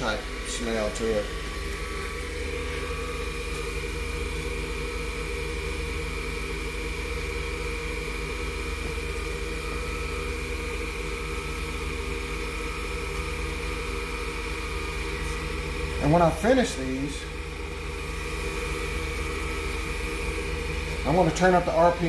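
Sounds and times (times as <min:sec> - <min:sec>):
wood lathe motor humming: 0:00.0 - 0:22.0.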